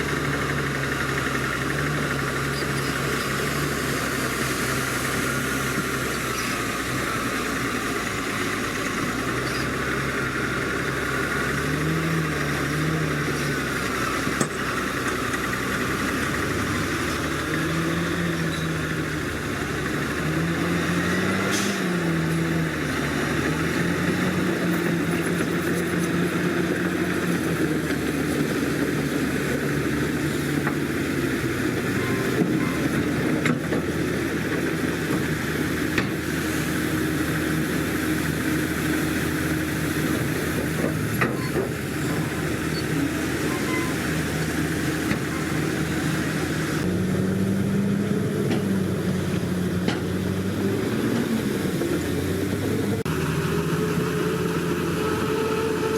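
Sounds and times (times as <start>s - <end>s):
bulldozer diesel engine under load: 0.0s - 55.9s.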